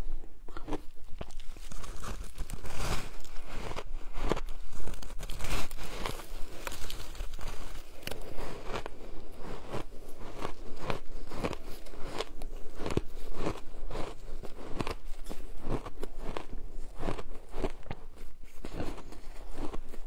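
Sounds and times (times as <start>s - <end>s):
crunching shaved ice: 0.5s - 20.0s.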